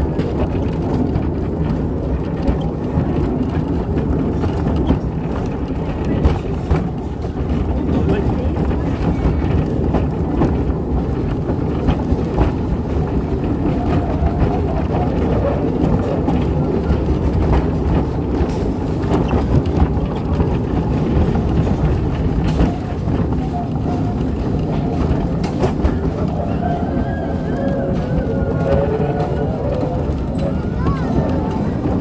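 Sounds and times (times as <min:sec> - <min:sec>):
miniature train rumbling on track: 0:00.0 - 0:32.0.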